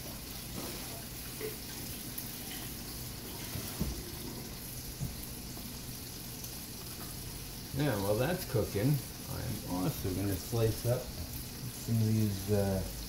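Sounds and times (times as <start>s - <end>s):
fish sizzling in a skillet: 0.0s - 13.0s.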